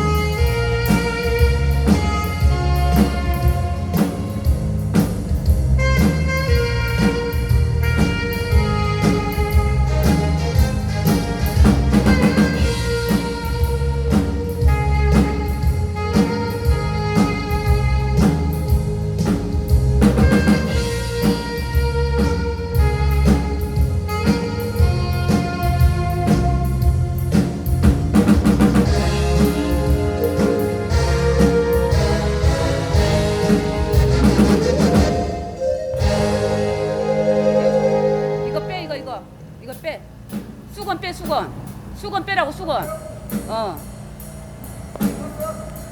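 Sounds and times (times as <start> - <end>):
alto saxophone melody: 0.0 - 39.6
keyboard: 0.0 - 40.0
drum kit steady beat: 0.0 - 45.9.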